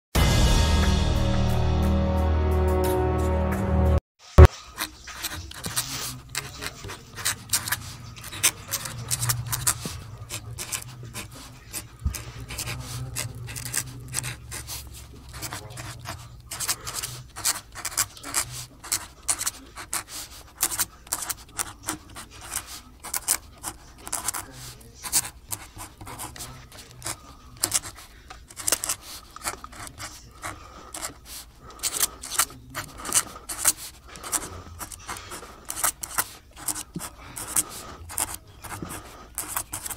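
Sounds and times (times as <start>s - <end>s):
cardboard rubbing and scraping: 4.6s - 39.9s.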